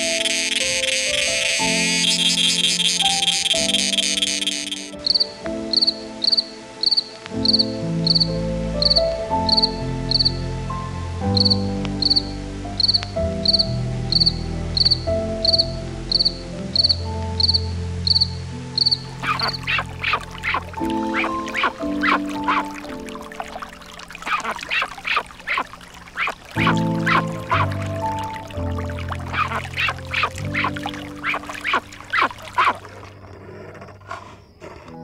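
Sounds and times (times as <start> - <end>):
insect chirping: 0.0 - 10.4, 11.3 - 34.8
slow background music with bass: 0.0 - 35.0.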